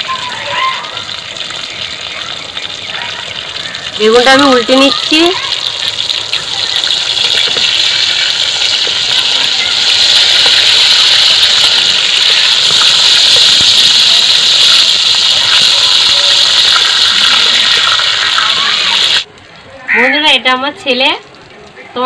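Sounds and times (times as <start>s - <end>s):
slices frying in hot oil: 0.0s - 19.3s.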